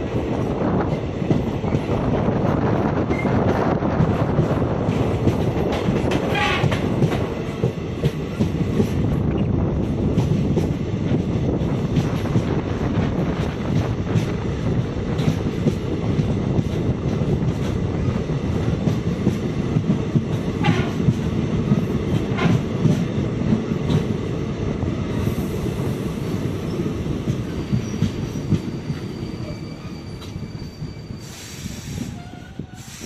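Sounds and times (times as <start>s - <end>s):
clack of rail joints: 0.0s - 24.2s, 26.6s - 33.0s
train wheels rumbling on rails: 0.0s - 33.0s.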